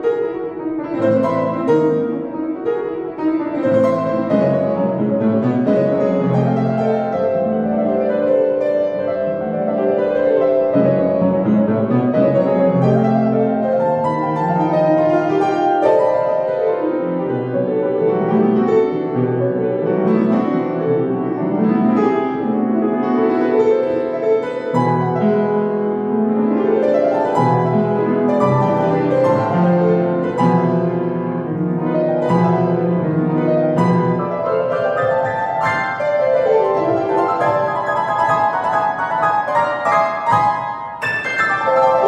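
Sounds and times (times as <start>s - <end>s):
upright piano classical piece: 0.0s - 42.0s.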